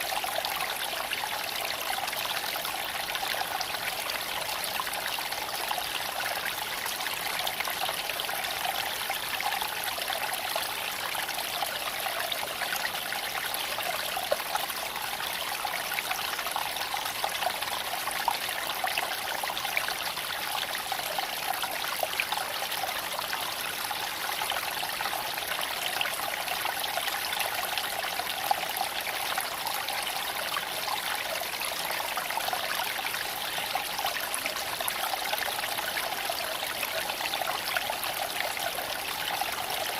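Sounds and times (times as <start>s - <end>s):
creek water trickling over stones: 0.0s - 39.9s.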